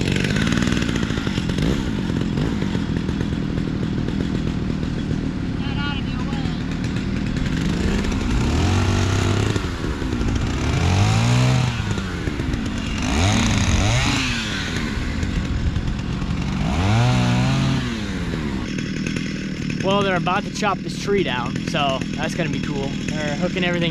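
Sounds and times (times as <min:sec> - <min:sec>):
chainsaws revving: 0:00.0 - 0:23.9.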